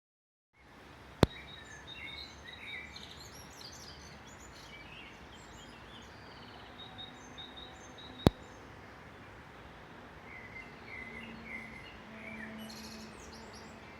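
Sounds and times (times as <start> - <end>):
low background noise: 0.6 - 13.9
songbirds singing: 0.6 - 13.9.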